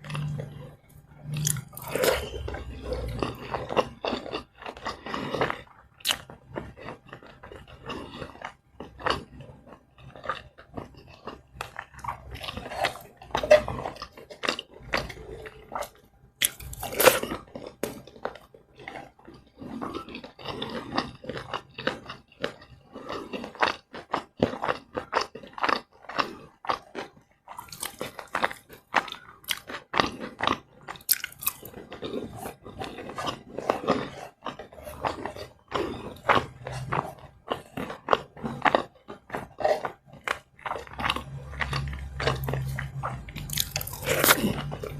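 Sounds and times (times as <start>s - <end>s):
chewing and crunching food: 0.0s - 44.9s.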